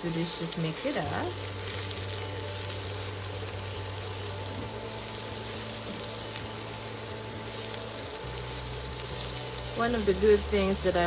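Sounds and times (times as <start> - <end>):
food sizzling in a hot pan: 0.0 - 11.0
steady low hum: 0.0 - 11.0.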